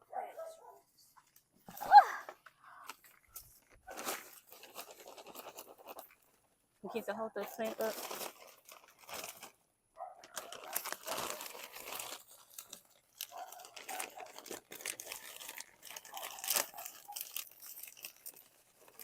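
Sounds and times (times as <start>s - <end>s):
potting soil crunching: 1.3s - 9.6s, 10.2s - 19.0s
plastic crinkling: 2.7s - 9.6s, 10.2s - 19.0s.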